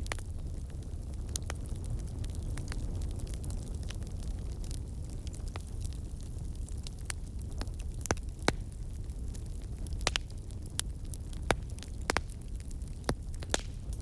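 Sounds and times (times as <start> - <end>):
burning wood crackling and popping: 0.0 - 14.0
wood fire rumbling: 0.0 - 14.0.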